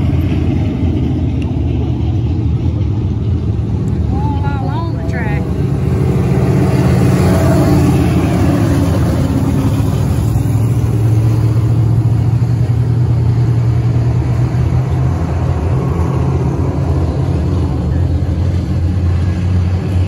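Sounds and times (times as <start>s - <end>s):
race car engines droning: 0.0s - 20.0s
race car passing close: 0.0s - 20.0s.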